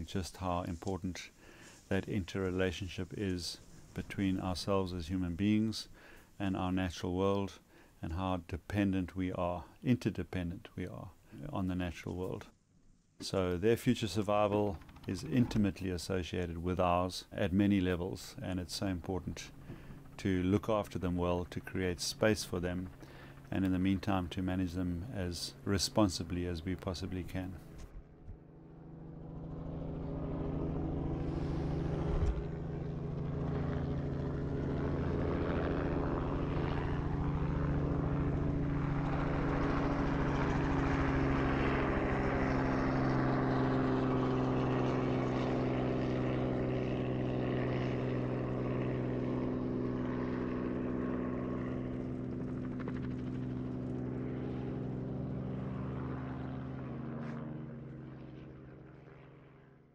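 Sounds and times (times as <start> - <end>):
engine running with low drone: 0.0 - 12.6, 13.2 - 59.9.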